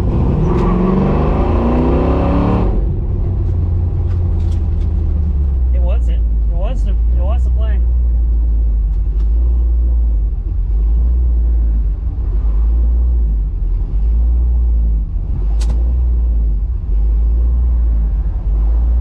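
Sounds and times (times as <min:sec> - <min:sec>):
car engine deep rumble: 0:00.0 - 0:19.0.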